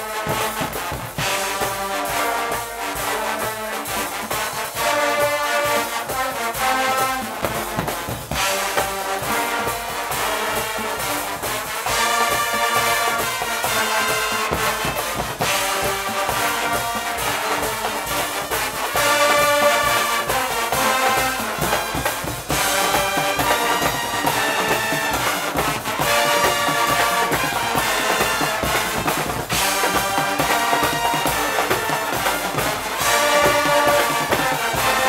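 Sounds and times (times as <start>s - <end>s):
brass band playing: 0.0s - 35.0s
drums: 0.0s - 35.0s.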